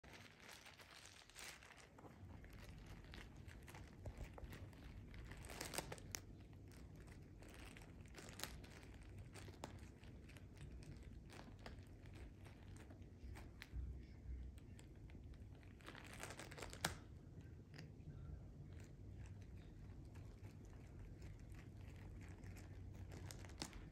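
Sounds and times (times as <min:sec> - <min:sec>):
plastic bag crinkling and tearing: 0:00.0 - 0:13.7, 0:14.6 - 0:17.1, 0:18.7 - 0:23.9.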